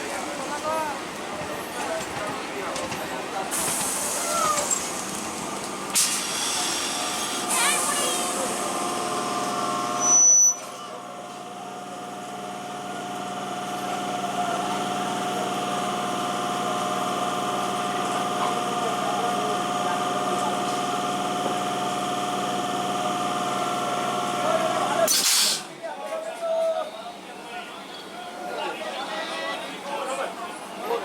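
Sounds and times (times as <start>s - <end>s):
train electrical hum and whine: 0.0s - 31.0s.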